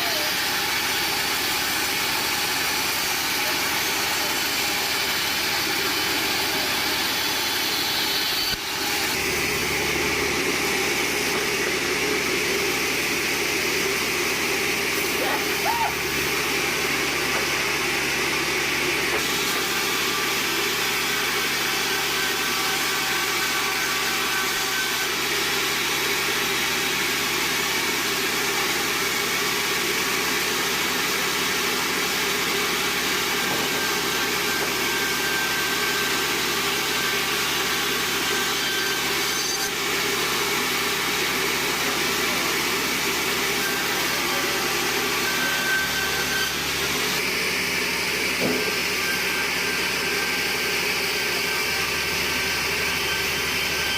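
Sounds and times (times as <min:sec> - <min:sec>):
band saw cutting log: 0:00.0 - 0:53.9.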